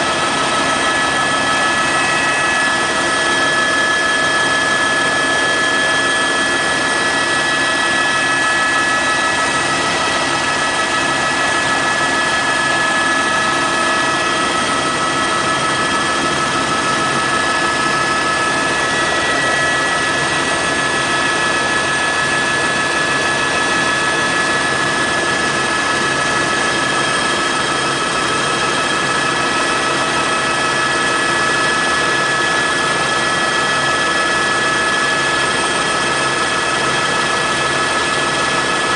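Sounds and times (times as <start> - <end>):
helicopter engine whine: 0.0 - 38.9
helicopter rotor noise: 0.0 - 38.9.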